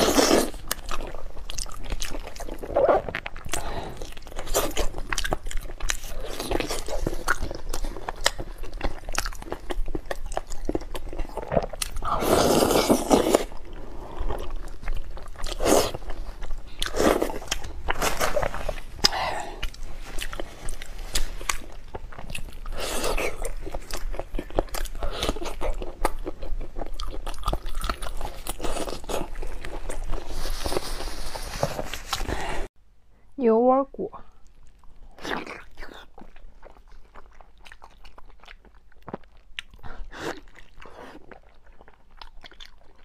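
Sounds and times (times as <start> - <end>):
crunchy chewing: 0.0 - 32.4, 34.6 - 43.0.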